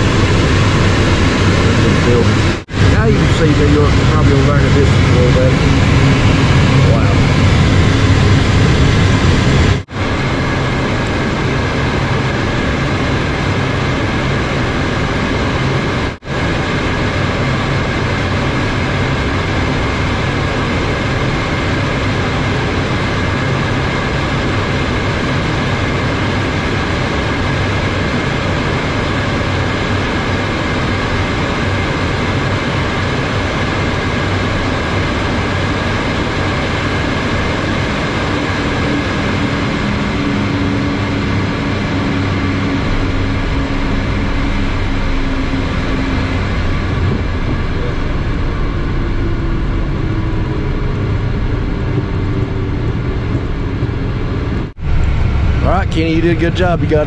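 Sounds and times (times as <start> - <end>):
faint steady whine: 0.0 - 57.0
jet engine and airflow rush: 0.0 - 57.0.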